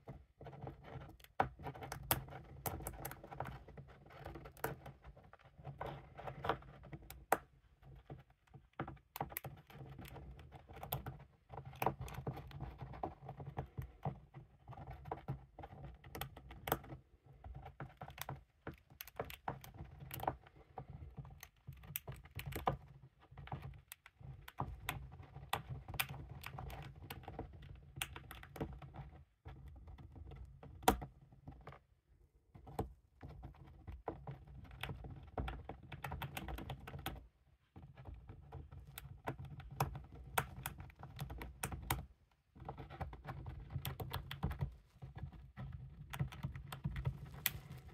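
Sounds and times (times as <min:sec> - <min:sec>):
hamster gnawing peanut shell: 0:00.0 - 0:31.9, 0:32.5 - 0:47.9.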